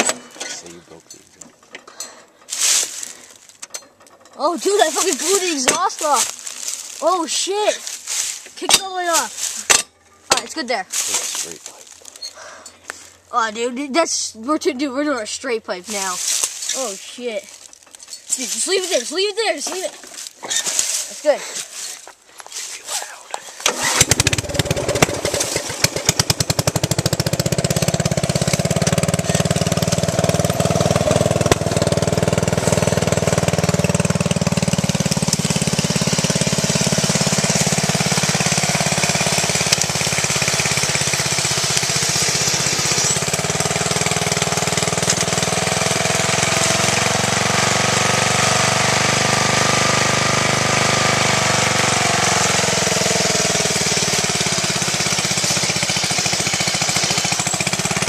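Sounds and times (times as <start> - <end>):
lawn mower engine popping: 0.0 - 13.6, 14.5 - 58.0.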